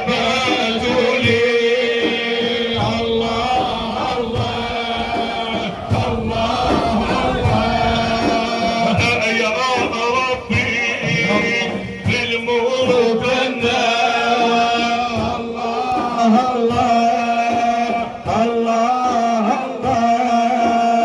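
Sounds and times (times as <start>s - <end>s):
men chanting: 0.0s - 21.0s
regular drum beat: 0.0s - 21.0s.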